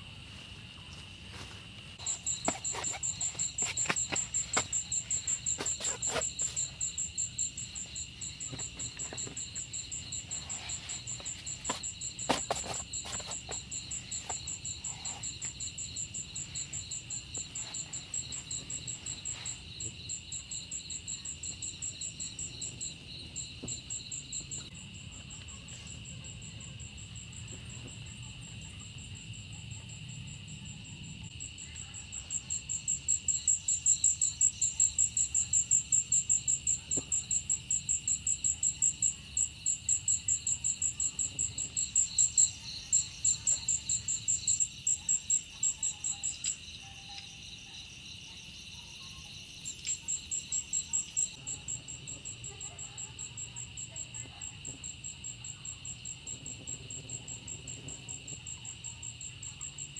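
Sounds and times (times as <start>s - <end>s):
crickets chirping: 0.0s - 59.9s
high insect drone: 0.0s - 59.9s.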